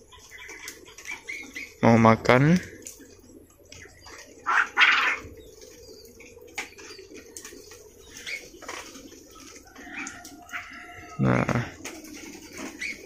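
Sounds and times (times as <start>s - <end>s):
small birds chirping: 0.0s - 13.0s
wings fluttering: 0.0s - 13.0s.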